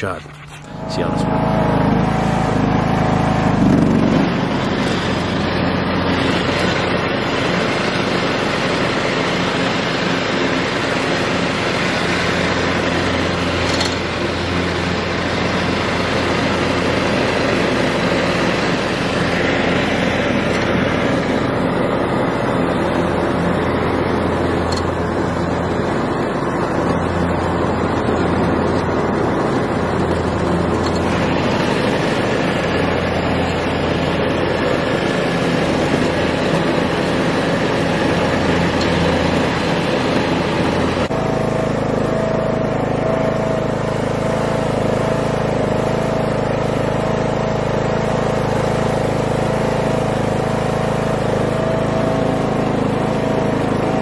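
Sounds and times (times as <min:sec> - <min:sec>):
riding lawn mower engine drone: 0:00.0 - 0:54.0.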